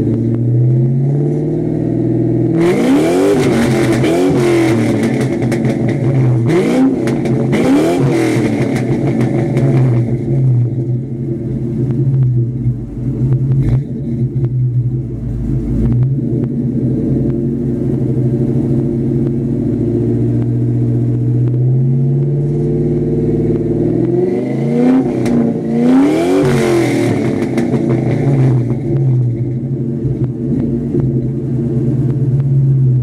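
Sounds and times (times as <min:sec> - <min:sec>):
car engine idling: 0:00.0 - 0:33.0
engine throttle blips: 0:00.0 - 0:33.0
exhaust pops: 0:02.6 - 0:22.7, 0:26.4 - 0:33.0.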